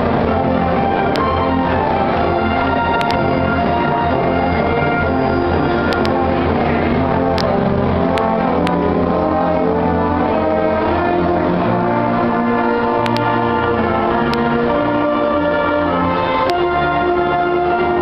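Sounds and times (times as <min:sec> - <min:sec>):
brass band playing chords: 0:00.0 - 0:18.0.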